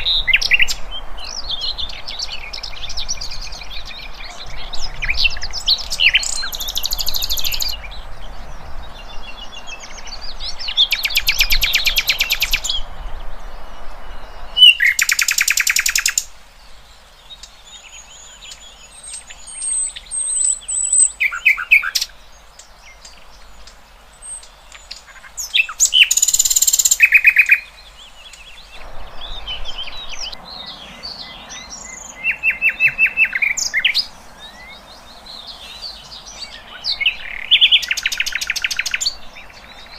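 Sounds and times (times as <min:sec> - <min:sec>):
background hiss: 0:00.0 - 0:39.9
songbirds singing and chirping: 0:00.0 - 0:39.9.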